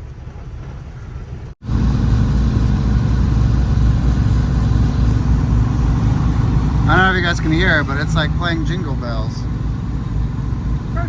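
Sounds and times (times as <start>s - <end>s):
snow chains clinking: 0.0s - 11.0s
truck rumbling: 0.0s - 11.0s.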